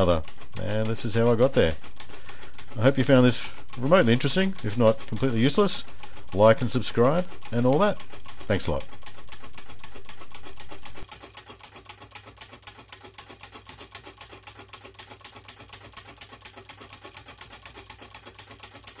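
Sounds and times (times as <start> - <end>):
rapid solenoid clicking: 0.0 - 19.0.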